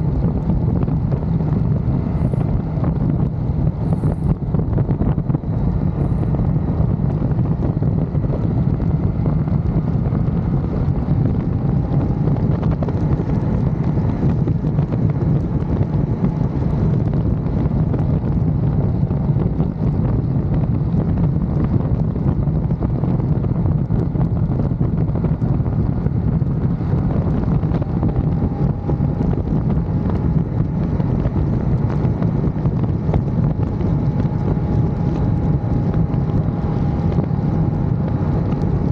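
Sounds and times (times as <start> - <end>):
motorcycle engine hum: 0.0 - 38.9
wind rushing over microphone: 0.0 - 38.9.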